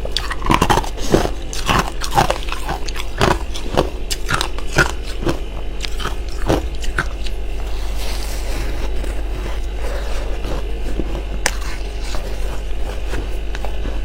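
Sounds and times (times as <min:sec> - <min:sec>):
crisp crunches of chewing frost: 0:00.1 - 0:14.0.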